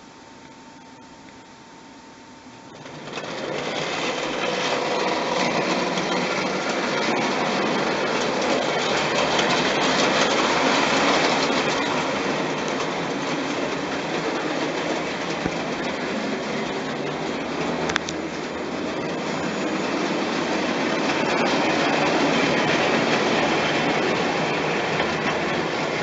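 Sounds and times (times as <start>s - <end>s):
model train rattling on track: 2.7s - 26.0s.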